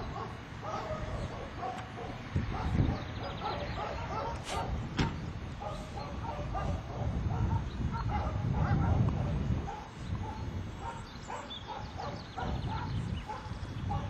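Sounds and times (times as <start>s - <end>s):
dogs barking: 0.0s - 14.0s.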